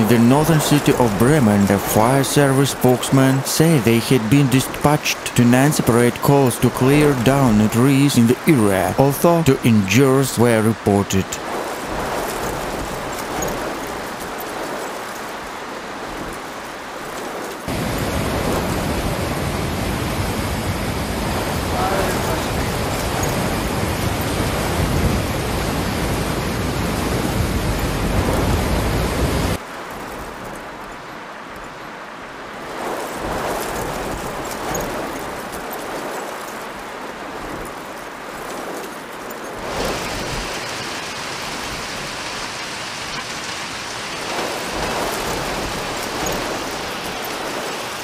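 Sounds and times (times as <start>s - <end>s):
heavy rain: 0.0s - 48.0s
river rushing: 0.0s - 48.0s.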